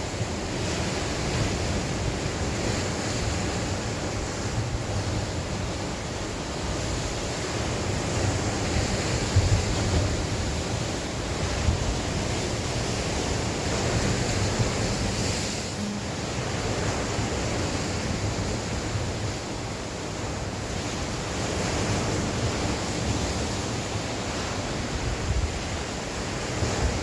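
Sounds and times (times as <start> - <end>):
sea waves breaking on shore: 0.0 - 27.0
wind gusting on microphone: 0.0 - 27.0.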